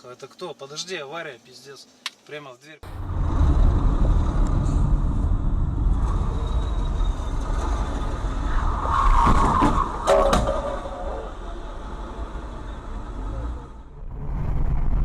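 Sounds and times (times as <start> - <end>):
harsh rushing noise: 2.8 - 15.0
vehicle rumbling in motion: 2.8 - 15.0.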